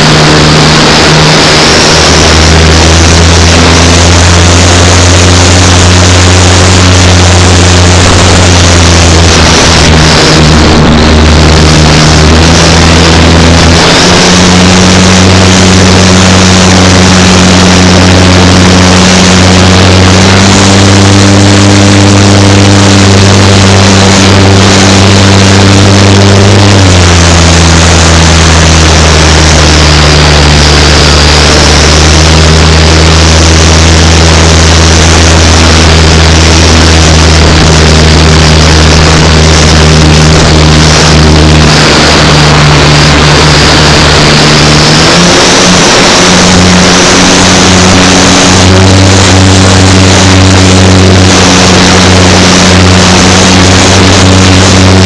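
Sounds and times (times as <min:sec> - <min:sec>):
steady low hum: 0:00.0 - 0:55.0
wind buffeting microphone: 0:00.0 - 0:55.0.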